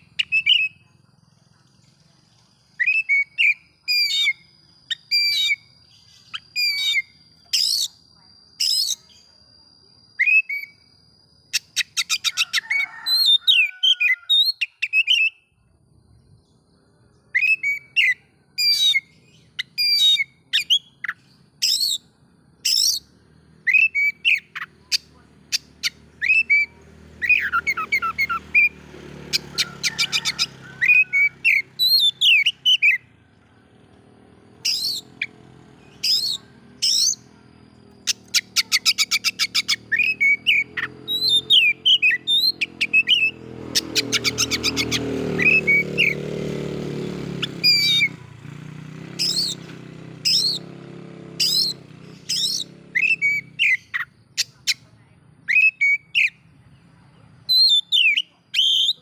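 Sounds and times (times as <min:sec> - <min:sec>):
bird singing trills and whistles: 0:00.0 - 0:01.0, 0:01.6 - 0:09.4, 0:10.1 - 0:10.9, 0:11.5 - 0:15.6, 0:16.4 - 0:33.1, 0:34.5 - 0:46.5, 0:47.2 - 0:50.7, 0:51.4 - 0:54.8, 0:55.4 - 0:59.0.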